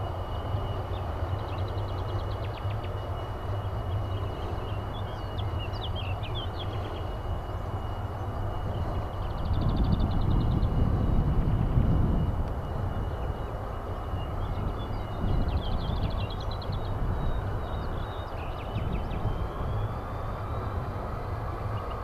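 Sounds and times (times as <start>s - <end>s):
distant jet engine rumble: 0.0s - 22.0s
thin steady high tone: 0.0s - 22.0s
small birds twittering: 0.1s - 11.0s, 13.0s - 22.0s.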